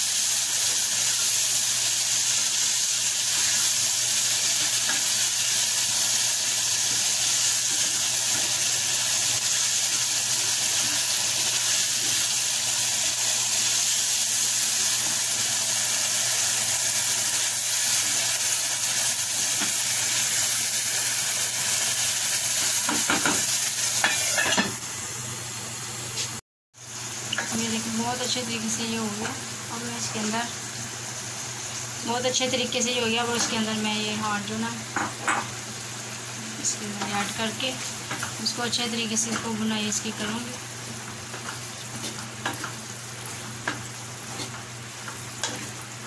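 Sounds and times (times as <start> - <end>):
masala sizzling in oil: 0.0 - 46.0.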